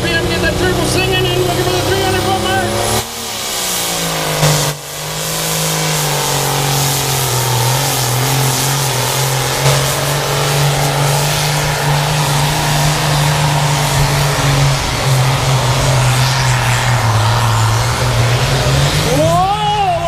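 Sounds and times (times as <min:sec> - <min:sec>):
diesel tractor engine at full throttle: 0:00.0 - 0:20.0.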